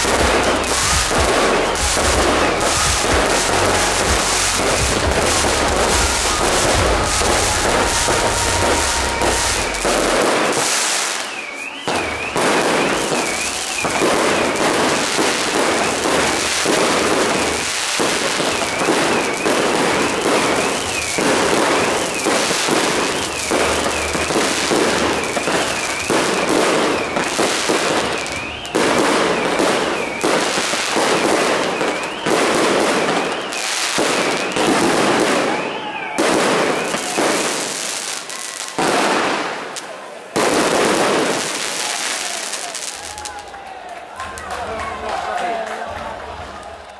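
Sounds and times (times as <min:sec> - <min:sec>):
firework whistle rising and falling: 0:00.0 - 0:39.9
fireworks crackling and hissing: 0:00.0 - 0:46.9.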